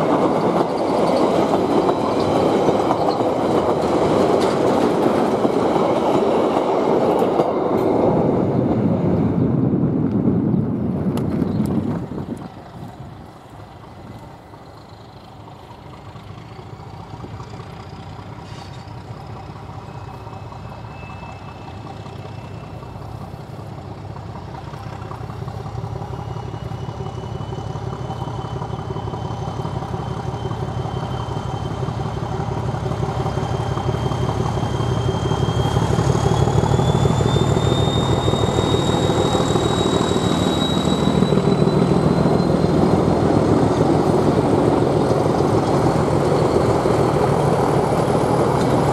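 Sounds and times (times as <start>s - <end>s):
diesel locomotive engines: 0.0s - 48.9s.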